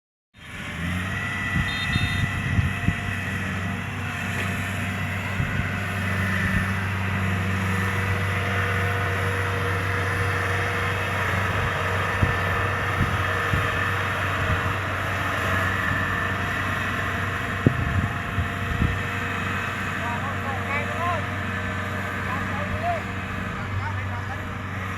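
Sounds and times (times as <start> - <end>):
combine harvester engine humming: 0.4 - 24.9.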